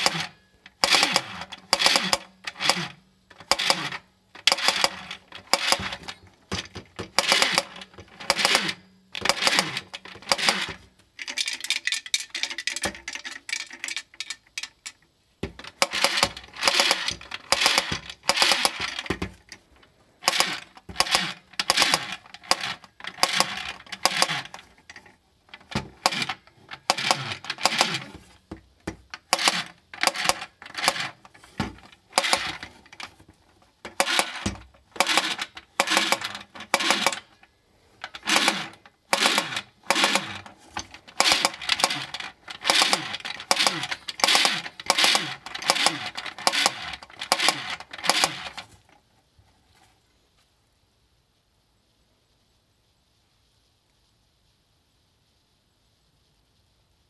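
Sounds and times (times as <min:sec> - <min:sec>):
toy gun clattering clicks: 0:00.0 - 0:19.6, 0:20.2 - 0:28.2, 0:29.1 - 0:33.2, 0:33.8 - 0:48.8.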